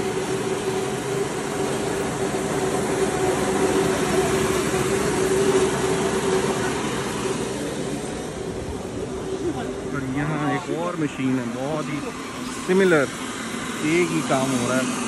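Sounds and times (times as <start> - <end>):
rice milling machine running: 0.0 - 15.0.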